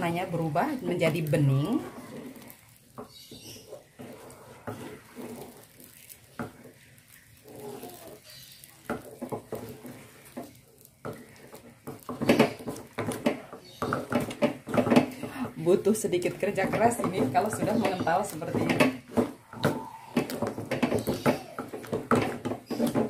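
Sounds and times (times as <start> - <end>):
utensil scraping aluminium bowl: 0.0 - 14.9, 15.5 - 23.0.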